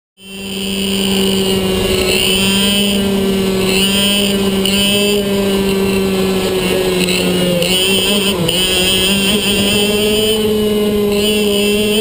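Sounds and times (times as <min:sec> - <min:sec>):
kart engine at high revs: 0:00.2 - 0:12.0.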